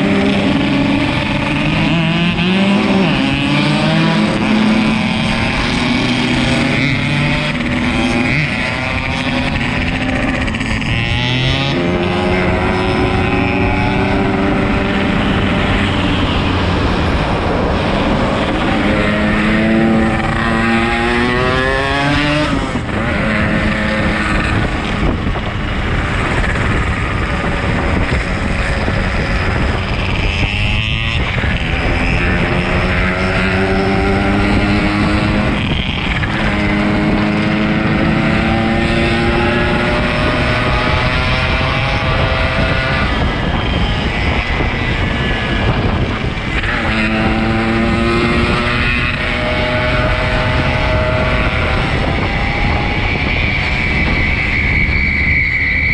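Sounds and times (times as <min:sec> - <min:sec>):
low rush of riding noise: 0:00.0 - 0:55.9
motorcycle engine revving: 0:00.0 - 0:55.9.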